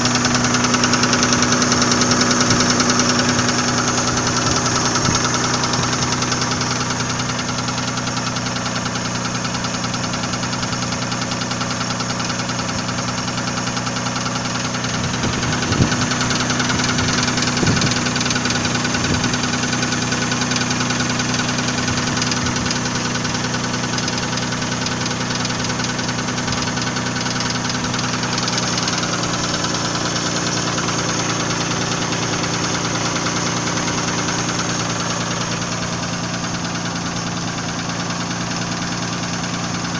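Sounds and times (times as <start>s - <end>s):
engine running: 0.0s - 39.9s
fast regular engine knock: 0.0s - 39.9s.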